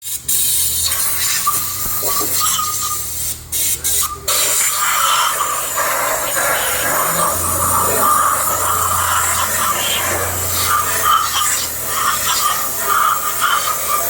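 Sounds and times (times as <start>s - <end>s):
hissing spray: 0.0s - 14.0s.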